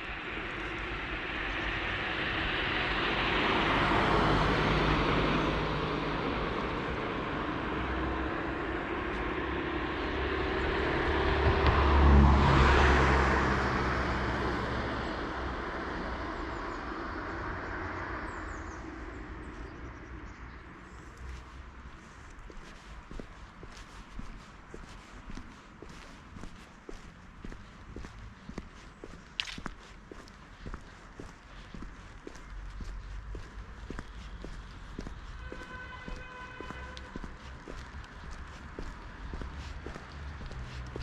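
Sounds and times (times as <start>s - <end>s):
cars passing on street: 0.0s - 41.0s.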